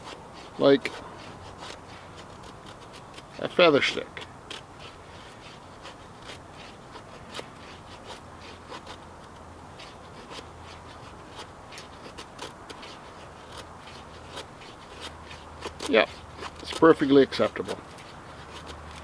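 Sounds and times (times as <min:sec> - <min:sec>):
knife scraping wooden stick: 0:00.0 - 0:19.0.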